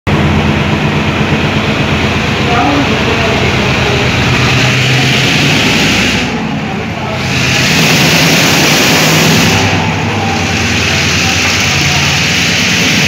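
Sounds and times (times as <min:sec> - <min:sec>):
diesel locomotive engine passing: 0:00.1 - 0:13.0.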